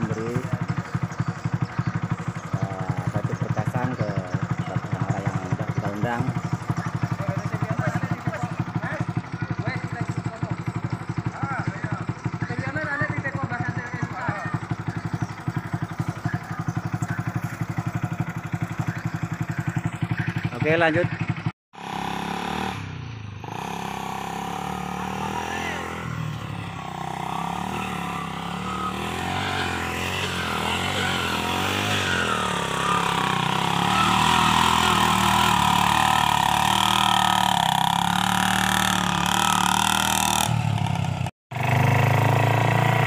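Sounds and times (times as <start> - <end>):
motorcycle engine under load: 0.0 - 43.0.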